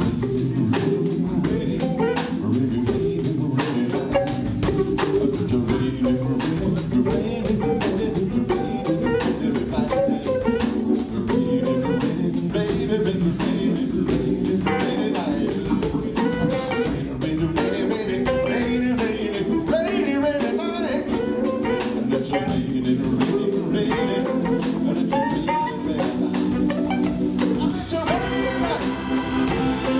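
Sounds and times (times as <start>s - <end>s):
melodic guitar line: 0.0s - 29.9s
organ chords: 0.0s - 29.9s
steady drum beat: 0.0s - 29.9s.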